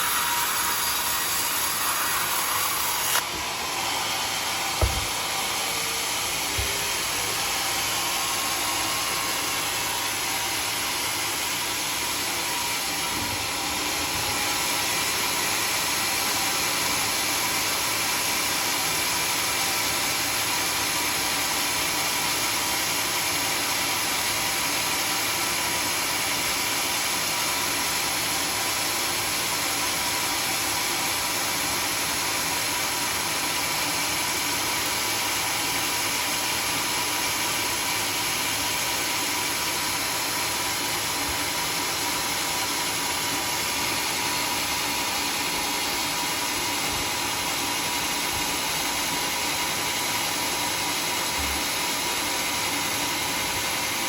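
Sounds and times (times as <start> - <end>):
sawmill machinery hiss and hum: 0.0 - 54.0.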